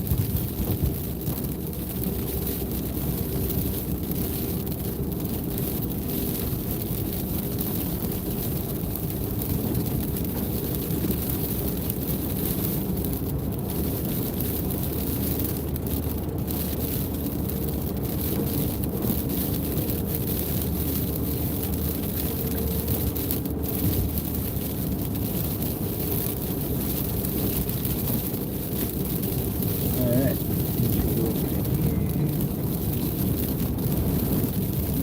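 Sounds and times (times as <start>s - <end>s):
road and engine noise in car: 0.0s - 35.0s.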